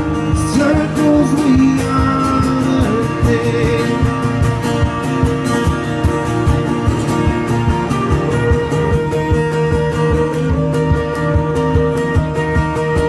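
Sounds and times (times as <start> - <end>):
plucked guitar: 0.0 - 13.0
steady low beat: 0.0 - 13.0.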